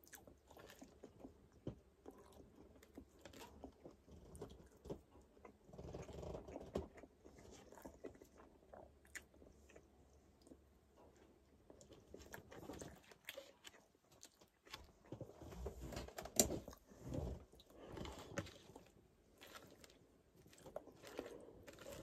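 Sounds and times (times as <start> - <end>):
person chewing bread: 0.0 - 22.0.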